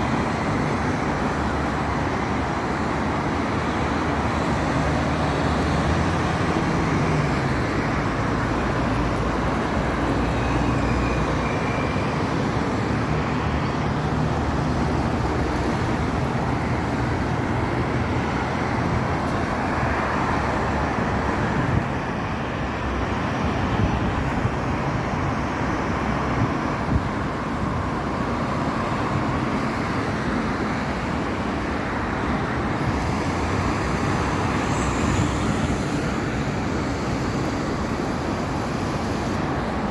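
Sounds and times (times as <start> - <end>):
road traffic noise: 0.0 - 39.9
vehicles passing: 0.0 - 39.9.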